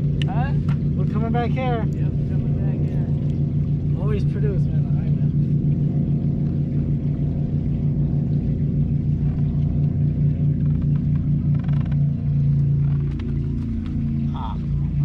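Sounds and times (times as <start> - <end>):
boat motor idling: 0.0 - 15.0.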